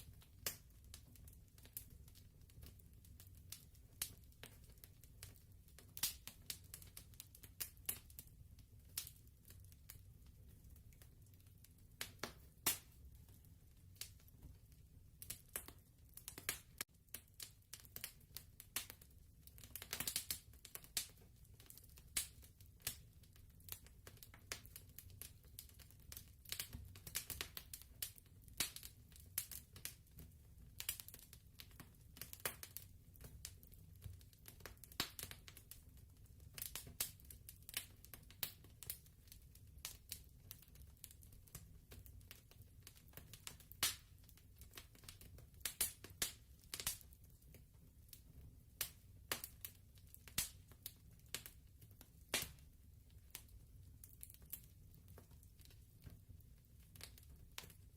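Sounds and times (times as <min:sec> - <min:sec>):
fireplace crackling and popping: 0:00.0 - 0:57.9.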